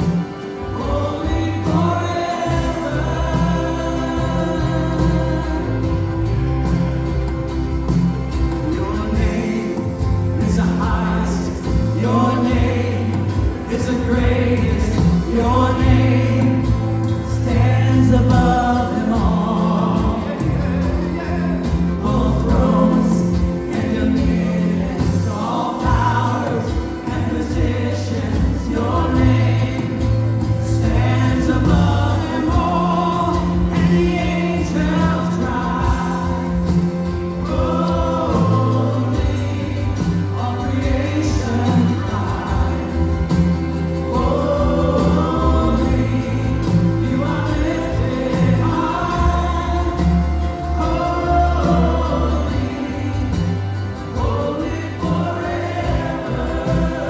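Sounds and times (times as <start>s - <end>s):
band with steady bass line: 0.0s - 57.0s
choir and congregation singing: 0.0s - 57.0s.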